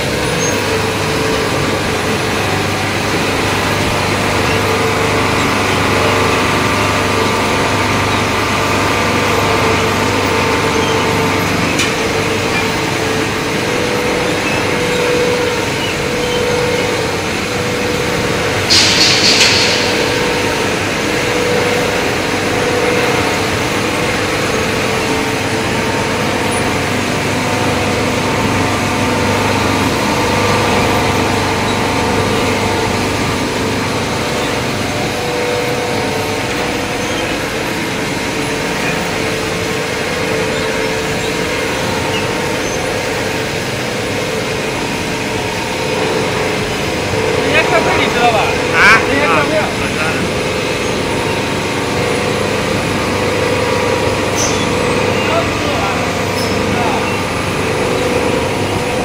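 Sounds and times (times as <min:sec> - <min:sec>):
machinery drone and hum: 0:00.0 - 0:59.0.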